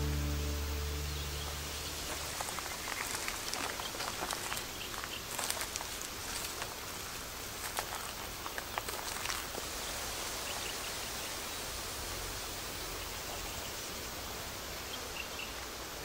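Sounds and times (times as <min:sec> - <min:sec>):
steady forest hiss: 0:00.0 - 0:16.0.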